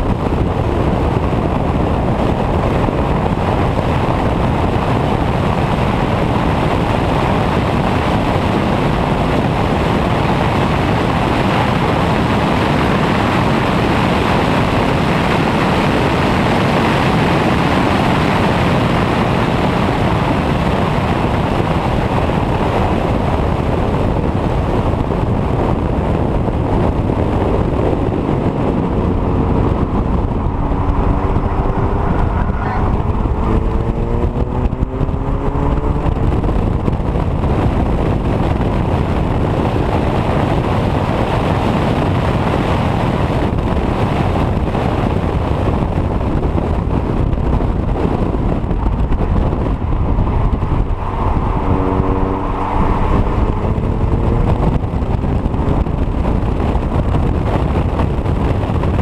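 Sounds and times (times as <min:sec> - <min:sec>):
car engine accelerating: 0:00.0 - 0:59.0
road noise: 0:00.0 - 0:59.0
wind rush on microphone: 0:00.0 - 0:59.0.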